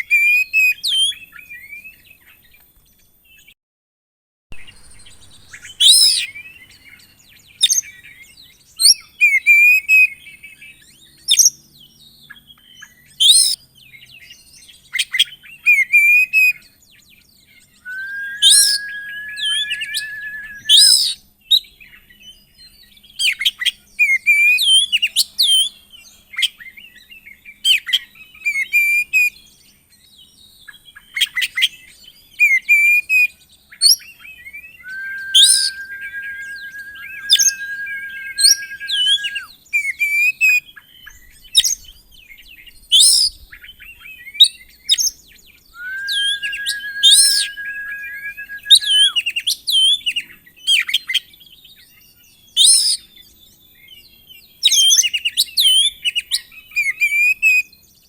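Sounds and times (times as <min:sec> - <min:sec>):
songbird singing whistles and warbles: 0:04.6 - 0:25.8, 0:26.5 - 0:51.2, 0:52.0 - 0:58.0.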